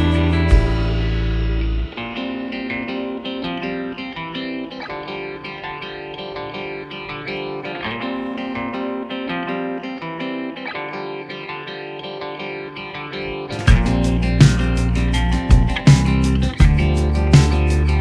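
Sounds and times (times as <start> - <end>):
guitar background music: 0.0 - 18.0.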